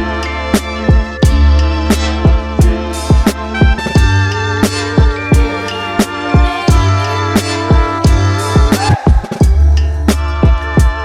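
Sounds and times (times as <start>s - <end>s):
hip-hop beat: 0.0s - 11.0s.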